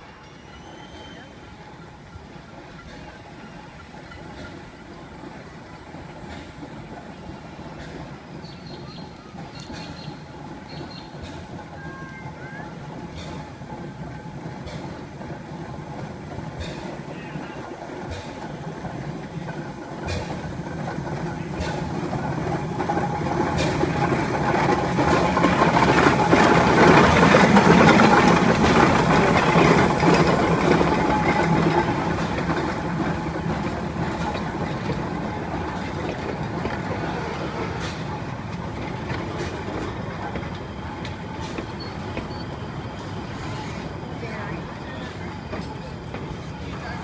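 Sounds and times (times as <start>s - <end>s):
steam locomotive passing: 0.0s - 47.0s
carriages rolling: 0.5s - 47.0s.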